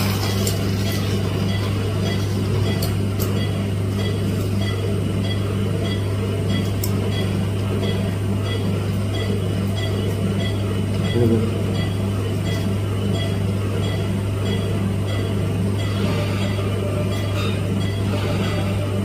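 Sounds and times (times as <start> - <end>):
low electrical hum of equipment: 0.0 - 19.0.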